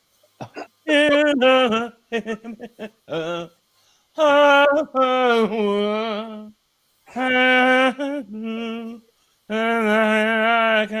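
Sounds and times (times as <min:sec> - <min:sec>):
man singing without words: 0:00.8 - 0:11.0.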